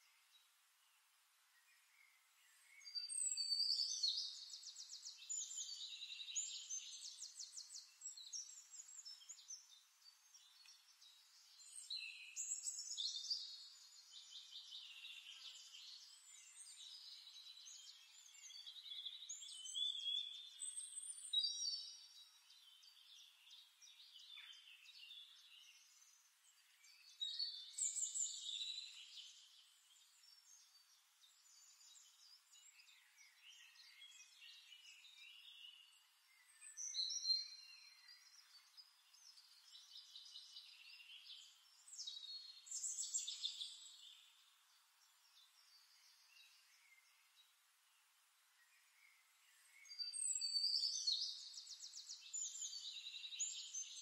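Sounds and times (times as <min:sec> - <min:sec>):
songbird trills and whistles: 0:01.6 - 0:44.4, 0:48.6 - 0:54.0.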